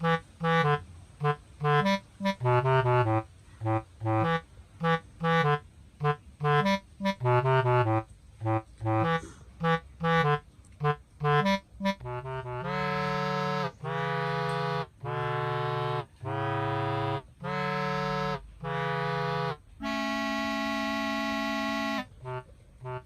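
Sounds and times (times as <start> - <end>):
staccato music notes: 0.0 - 23.0
sustained music chords: 0.0 - 23.0.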